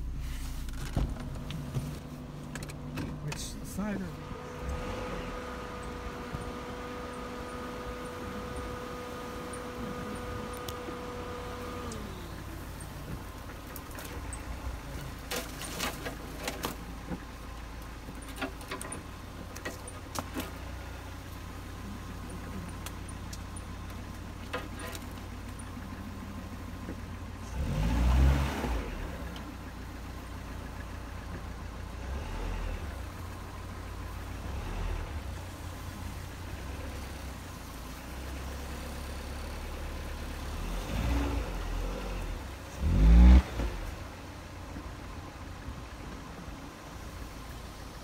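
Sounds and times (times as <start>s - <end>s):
car engine running at low revs: 0.0s - 48.0s.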